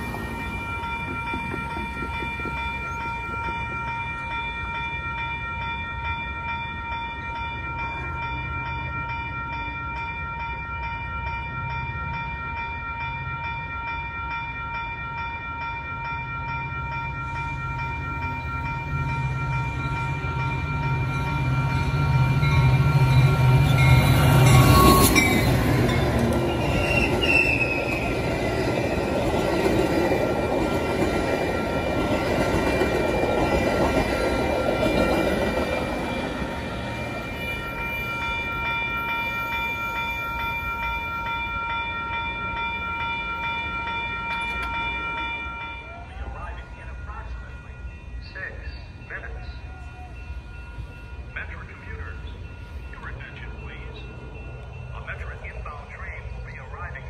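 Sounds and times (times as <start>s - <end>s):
railroad crossing bell ringing: 0.0s - 57.0s.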